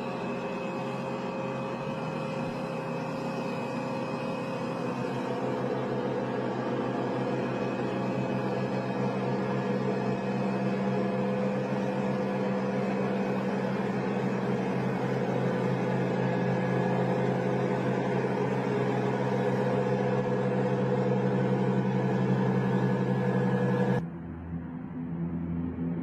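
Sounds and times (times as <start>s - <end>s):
aircraft engines droning: 0.0s - 26.0s.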